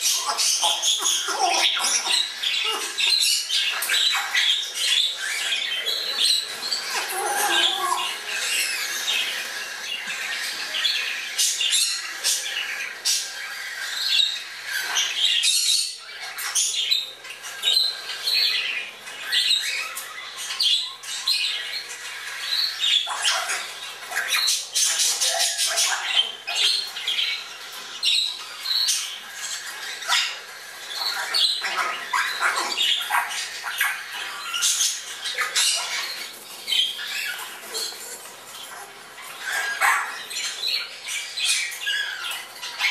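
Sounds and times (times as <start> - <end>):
parrots squawking and whistling: 0.0 - 42.9.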